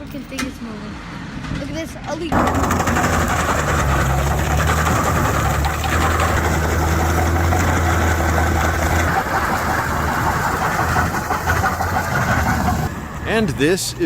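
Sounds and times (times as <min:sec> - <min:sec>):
vehicle engine droning: 0:02.2 - 0:14.0.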